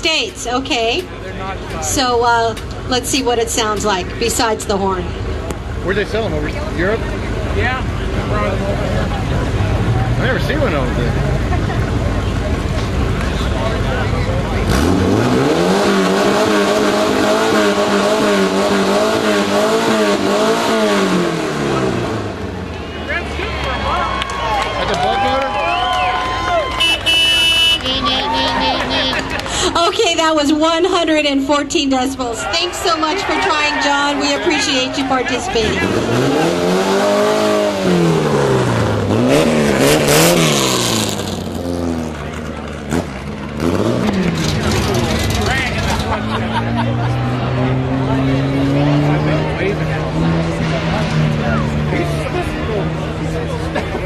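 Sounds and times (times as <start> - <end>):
car engine revving: 0.1 - 25.1, 32.6 - 54.0.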